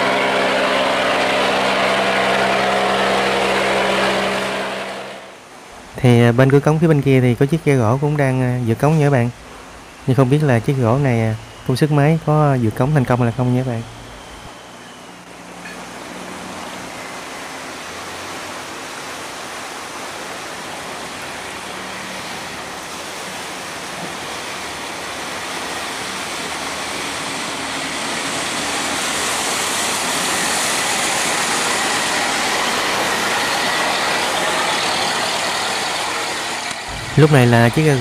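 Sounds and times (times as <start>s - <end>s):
boat engine running hard: 0.0s - 5.4s, 7.4s - 38.0s
water rushing through sluice: 0.0s - 13.8s, 15.2s - 38.0s.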